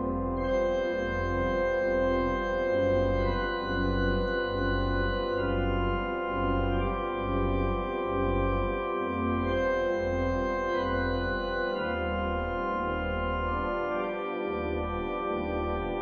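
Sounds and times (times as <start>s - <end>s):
pipe organ playing chords: 0.0s - 16.0s.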